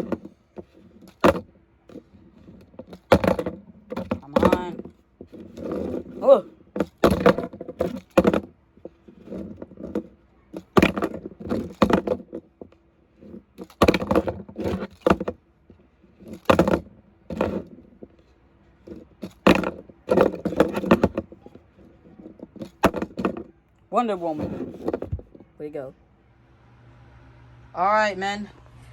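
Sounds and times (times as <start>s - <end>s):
toy trucks clattering and scraping: 0.0s - 25.9s.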